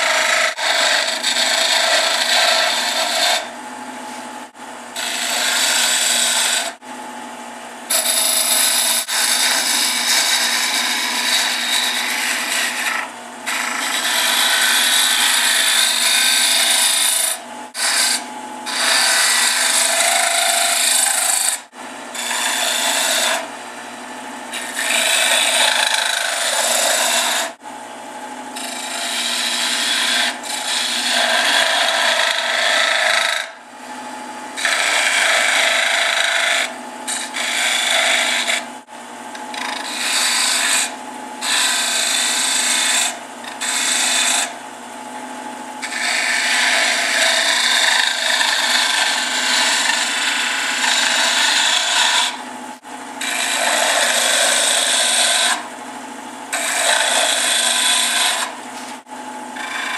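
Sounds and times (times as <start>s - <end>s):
lathe tool scraping wood: 0.0s - 3.5s, 5.0s - 6.8s, 7.9s - 23.5s, 24.5s - 27.6s, 28.6s - 33.6s, 34.6s - 38.7s, 39.3s - 44.6s, 45.8s - 52.4s, 53.2s - 55.7s, 56.5s - 59.9s
lathe motor humming: 0.0s - 3.9s, 4.9s - 6.7s, 7.9s - 23.9s, 24.5s - 27.7s, 28.6s - 38.7s, 39.3s - 44.4s, 45.8s - 52.4s, 53.2s - 55.6s, 56.5s - 58.6s.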